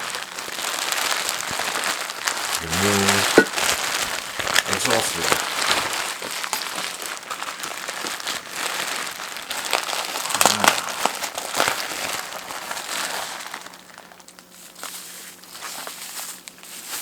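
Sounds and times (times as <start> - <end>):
packaging crinkling and crackling: 0.0 - 17.0.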